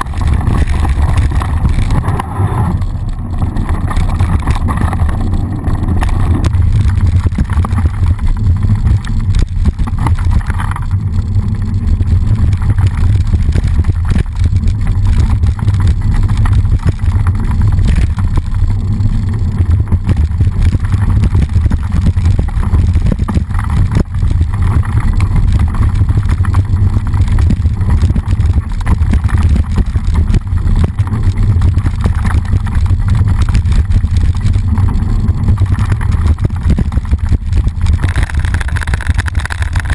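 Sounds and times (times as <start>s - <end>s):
bike rattling and knocking: 0.0s - 39.9s
wind rumble on microphone: 0.0s - 39.9s.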